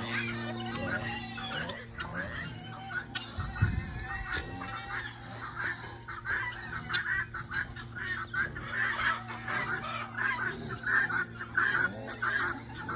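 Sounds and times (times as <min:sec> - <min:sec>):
chickens clucking: 0:00.0 - 0:12.9
steady low hum: 0:00.0 - 0:12.9.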